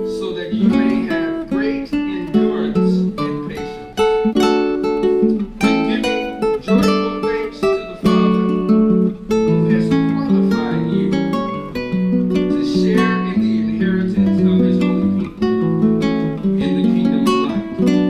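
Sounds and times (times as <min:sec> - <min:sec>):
acoustic guitar chords: 0:00.0 - 0:18.0.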